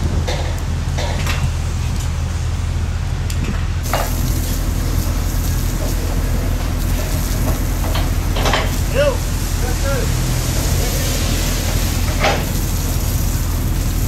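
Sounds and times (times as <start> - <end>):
low engine hum: 0.0 - 14.0
rain hissing: 1.5 - 14.0.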